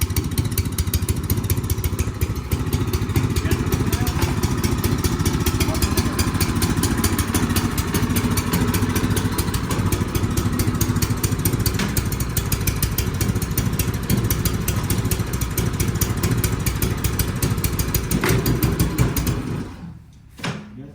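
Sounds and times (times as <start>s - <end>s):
snowblower engine running: 0.0s - 20.0s.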